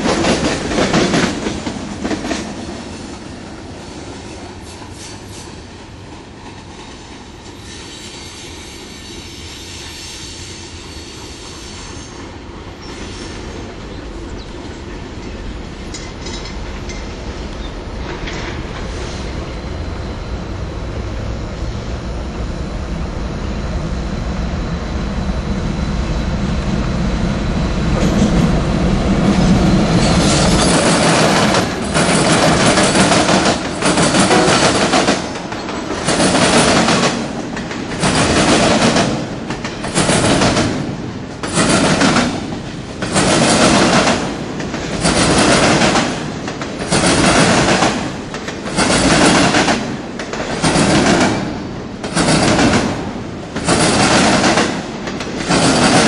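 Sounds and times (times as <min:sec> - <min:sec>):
diesel locomotive rumbling past: 0:00.0 - 0:56.0
train wheel and rail noise: 0:00.0 - 0:56.0.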